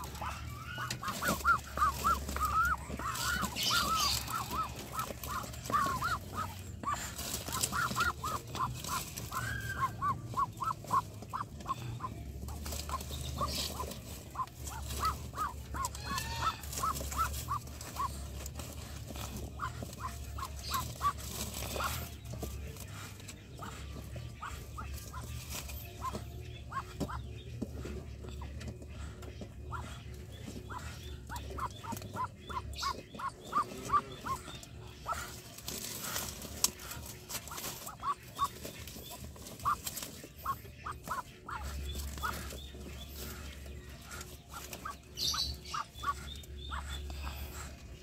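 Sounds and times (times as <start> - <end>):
hand rustling feathers: 0.0 - 28.2, 29.0 - 48.0.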